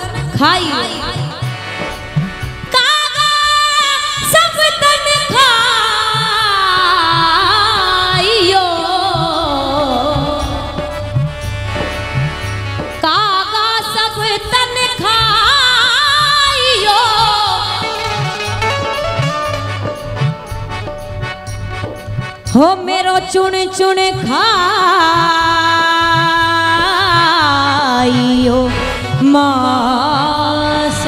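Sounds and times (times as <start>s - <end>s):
steady low drum beat: 0.0s - 31.0s
wordless devotional melody: 0.0s - 31.0s.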